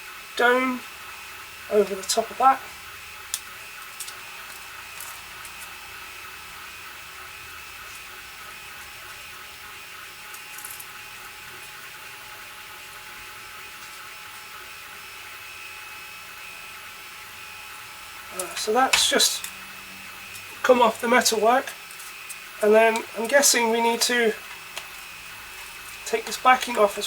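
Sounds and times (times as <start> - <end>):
printer mechanical whine: 0.0 - 27.0.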